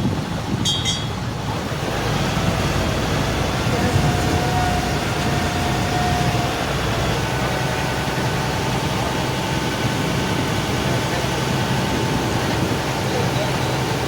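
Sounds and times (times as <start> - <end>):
motor engine droning: 0.0 - 14.0.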